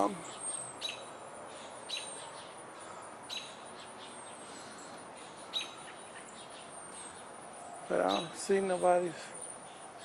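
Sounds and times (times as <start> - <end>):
birds chirping: 0.0 - 10.0
steady background hiss: 0.0 - 10.0.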